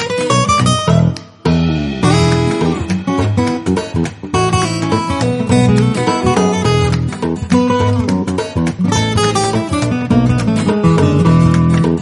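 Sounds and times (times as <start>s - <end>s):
strummed acoustic guitar music: 0.0s - 12.0s.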